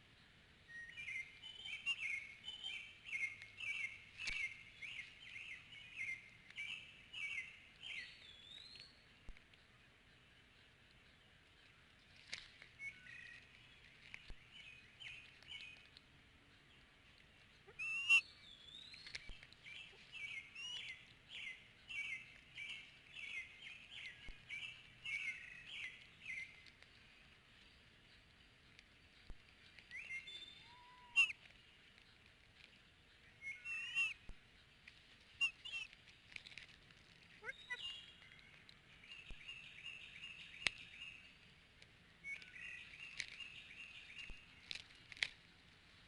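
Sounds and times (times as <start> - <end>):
birds chirping: 0.0 - 46.0.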